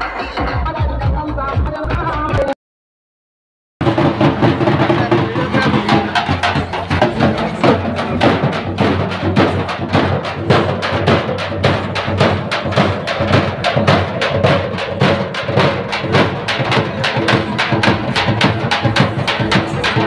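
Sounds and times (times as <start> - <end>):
frame drums beaten fast: 3.8 - 20.0.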